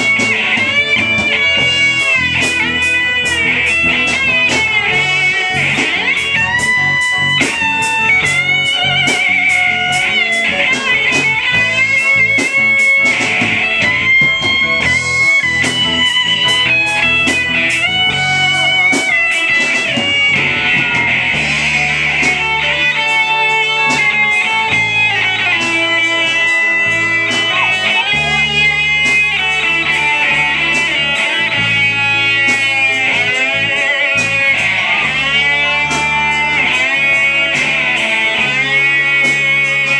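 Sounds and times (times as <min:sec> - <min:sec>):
bass guitar: 0:00.0 - 0:39.9
drum beat: 0:00.0 - 0:39.9
electric guitars: 0:00.0 - 0:39.9
keyboard: 0:00.0 - 0:39.9.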